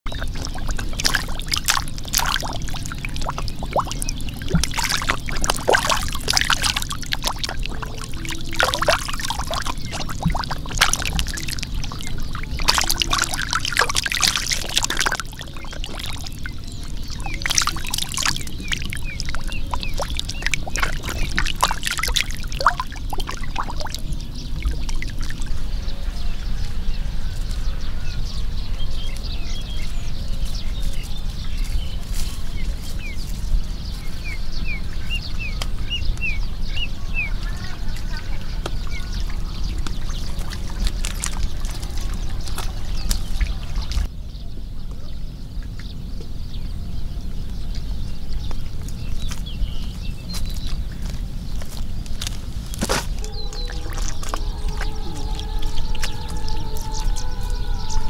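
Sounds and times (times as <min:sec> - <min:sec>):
water and mud splashing: 0:00.1 - 0:27.3, 0:28.3 - 0:44.1, 0:45.5 - 0:58.0
steady low rumble: 0:00.1 - 0:58.0.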